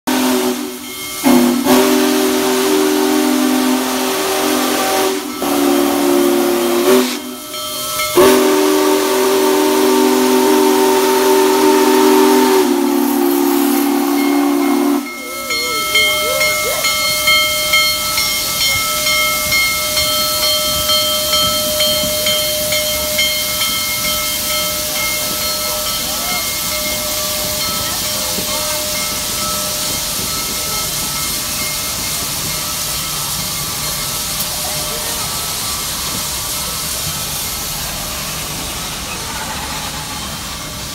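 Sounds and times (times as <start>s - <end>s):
hissing steam: 0.1s - 40.9s
steam locomotive chime whistle: 0.1s - 40.9s.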